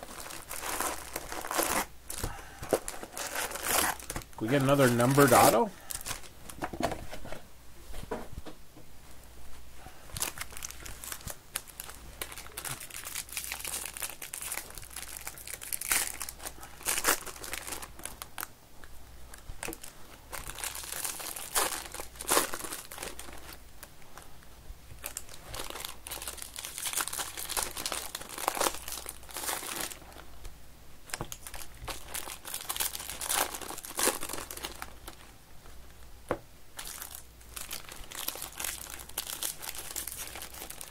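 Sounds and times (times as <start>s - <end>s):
foil wrappers crinkling and tearing: 0.0s - 6.6s, 10.1s - 18.5s, 19.3s - 24.2s, 25.0s - 30.3s, 31.1s - 35.3s, 36.8s - 40.9s.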